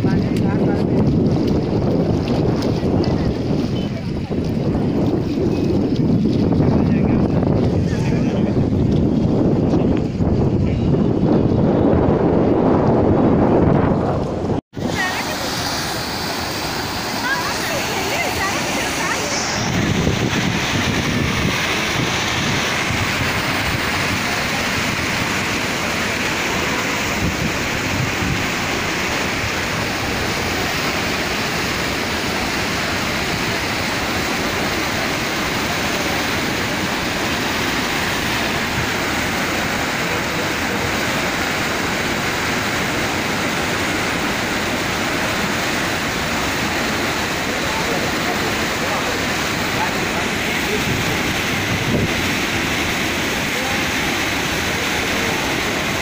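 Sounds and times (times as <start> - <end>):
water pouring over a weir: 0.0 - 10.2, 14.8 - 56.0.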